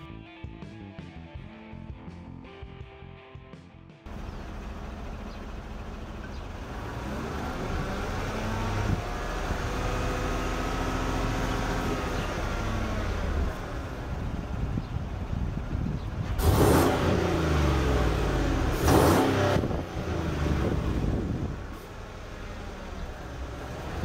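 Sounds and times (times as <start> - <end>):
pickup truck engine running: 4.1 - 24.0.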